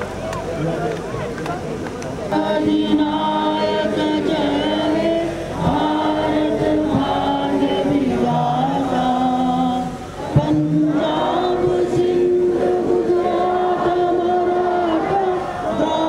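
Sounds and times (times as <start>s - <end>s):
group singing in unison: 2.3s - 16.0s.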